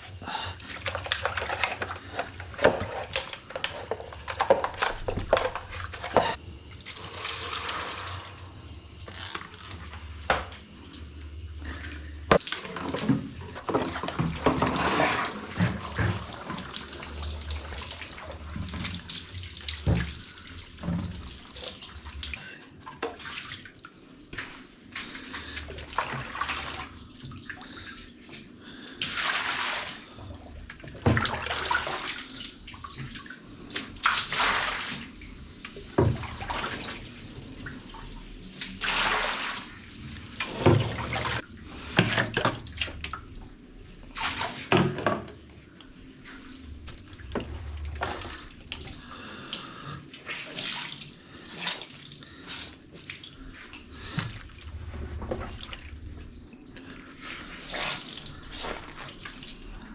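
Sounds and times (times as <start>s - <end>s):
water splashing and running: 0.0s - 28.0s, 28.7s - 59.9s.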